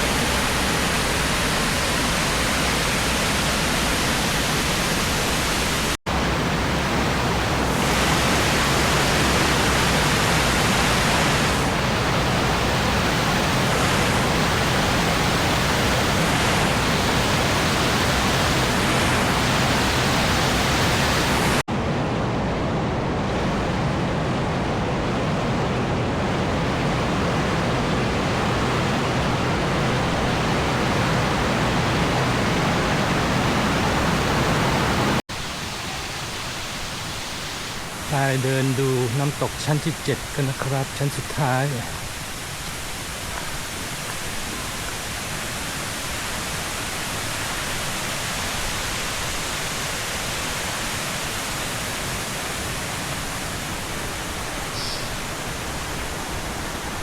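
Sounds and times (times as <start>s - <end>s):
waterfall rushing: 0.0s - 21.6s, 23.3s - 57.0s.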